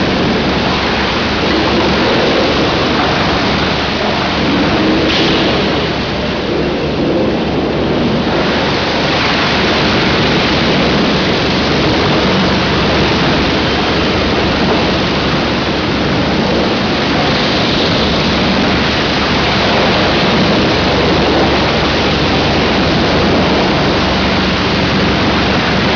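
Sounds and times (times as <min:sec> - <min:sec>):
wood chipper running: 0:00.0 - 0:25.9.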